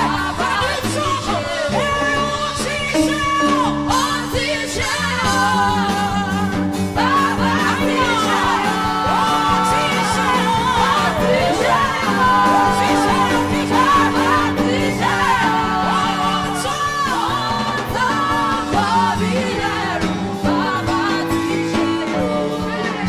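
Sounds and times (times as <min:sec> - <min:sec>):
woman singing gospel: 0:00.0 - 0:23.0
instrumental accompaniment: 0:01.9 - 0:23.0.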